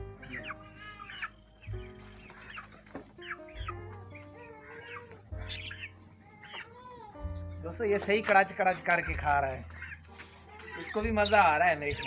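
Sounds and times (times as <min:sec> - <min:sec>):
background music with low bass: 0:00.0 - 0:12.0
hens clucking: 0:00.0 - 0:12.0.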